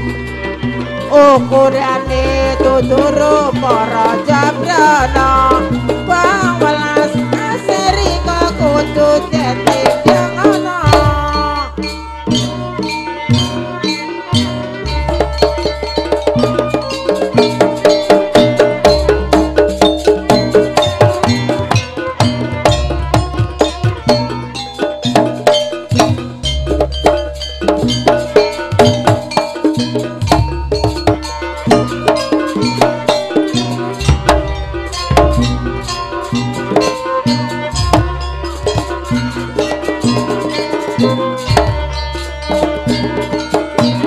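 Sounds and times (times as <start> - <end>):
drums: 0.0 - 44.0
fast pitched percussion strokes: 0.0 - 44.0.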